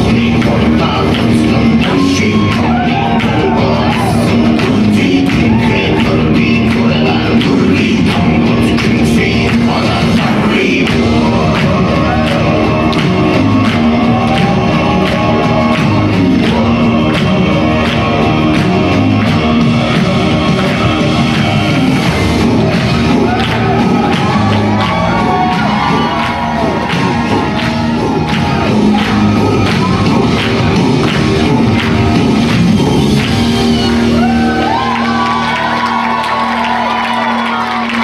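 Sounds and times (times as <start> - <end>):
men chanting in unison: 0.0 - 33.3
steady drum beat: 0.0 - 37.4.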